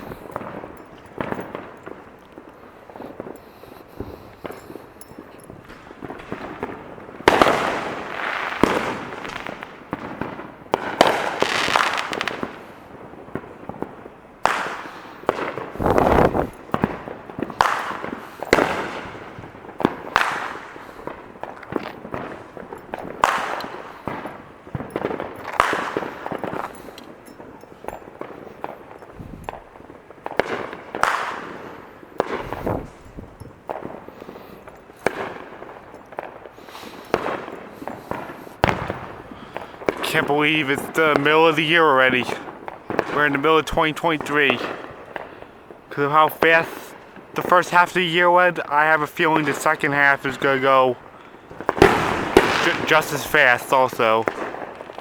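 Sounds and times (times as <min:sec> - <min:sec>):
fireworks banging and crackling: 0:00.0 - 0:55.0.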